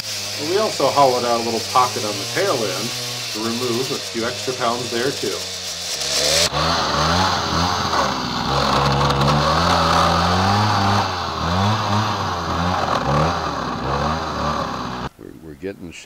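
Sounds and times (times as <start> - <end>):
chainsaw planing a log: 0.0 - 15.1.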